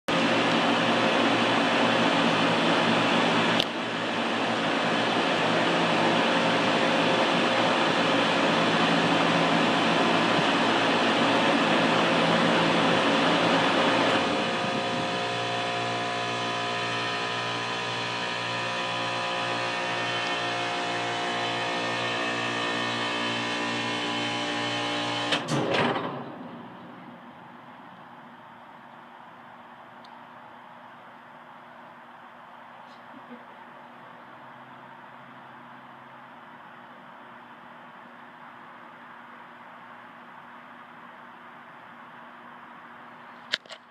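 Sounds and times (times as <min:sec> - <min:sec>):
air conditioning unit running: 0:00.1 - 0:43.9.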